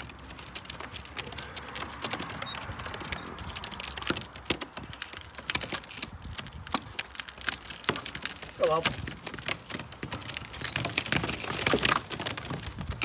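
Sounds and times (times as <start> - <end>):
pigeons pecking grain: 0.0 - 13.0.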